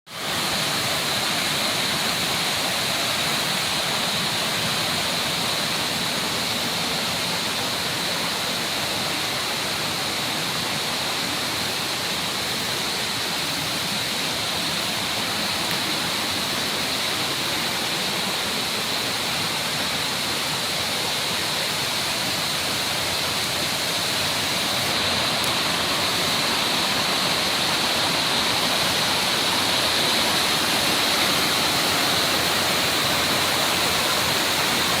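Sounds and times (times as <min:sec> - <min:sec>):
stream rushing over rocks: 0:00.1 - 0:35.0.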